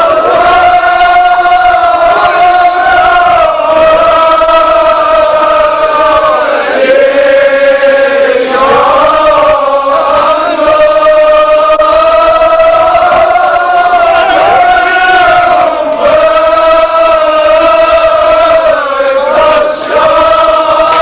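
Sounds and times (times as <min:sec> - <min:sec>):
men chanting: 0:00.0 - 0:21.0.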